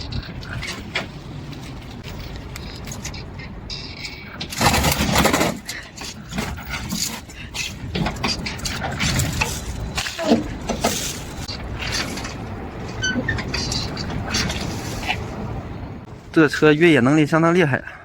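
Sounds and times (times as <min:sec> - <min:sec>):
vehicle rattling and knocking: 0:00.0 - 0:16.1
tyre and ground noise: 0:00.0 - 0:17.5.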